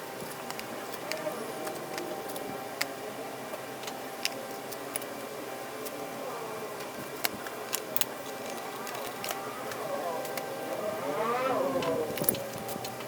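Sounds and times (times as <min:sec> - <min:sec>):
scooter engine humming: 0:00.0 - 0:13.0.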